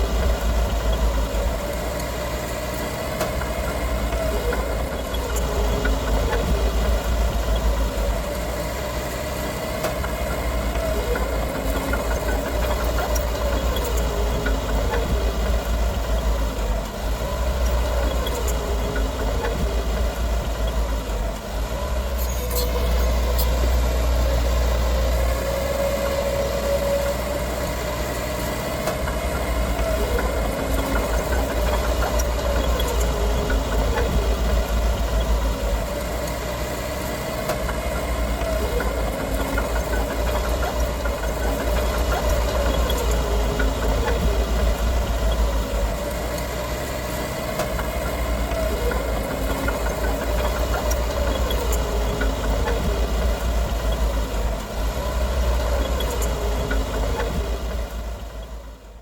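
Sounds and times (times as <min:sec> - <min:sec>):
heavy machinery diesel engine rumbling: 0:00.0 - 0:59.0.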